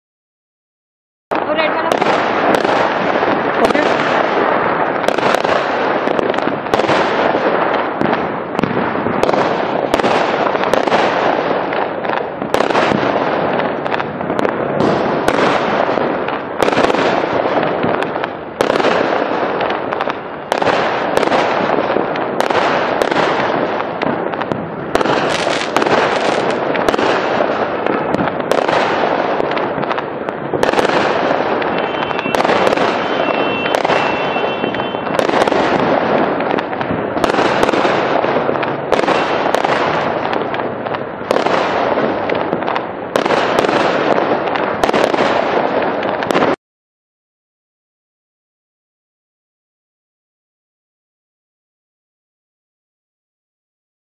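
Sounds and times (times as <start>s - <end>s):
fireworks bangs: 1.3s - 46.6s.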